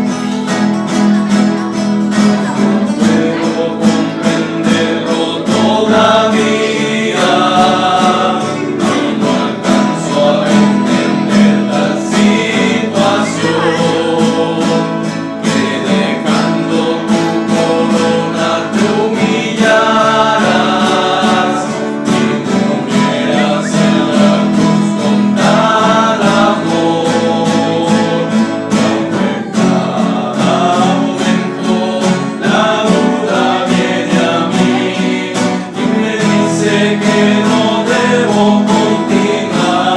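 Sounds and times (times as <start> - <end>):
men singing in parts: 0.0 - 39.9
strummed acoustic guitars: 0.0 - 39.9.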